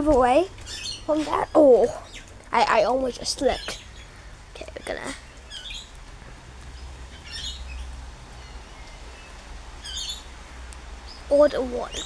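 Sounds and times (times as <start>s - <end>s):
birds harsh chattering: 0.0s - 12.0s
steady low rumble: 0.0s - 12.0s.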